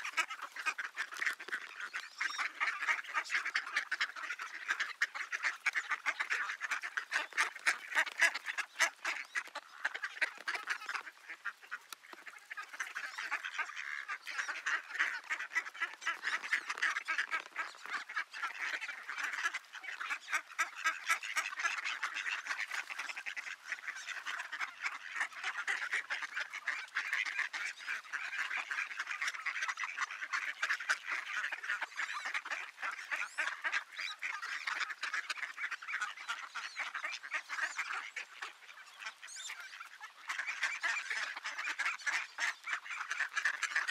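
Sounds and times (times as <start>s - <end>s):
ducks quacking: 0.0s - 43.9s.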